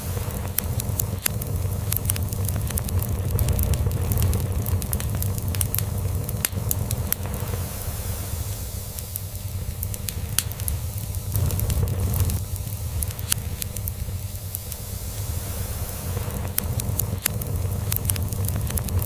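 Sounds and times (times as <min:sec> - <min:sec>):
log fire crackling: 0:00.0 - 0:19.0.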